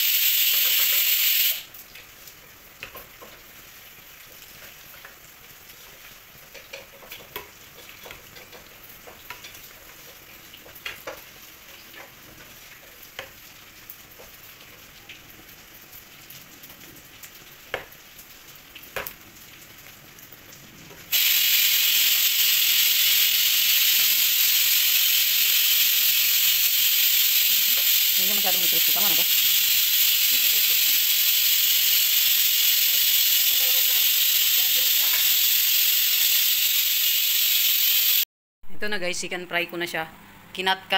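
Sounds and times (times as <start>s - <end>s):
loud steady sizzle: 0.0s - 38.3s
oil sizzling: 0.0s - 38.3s.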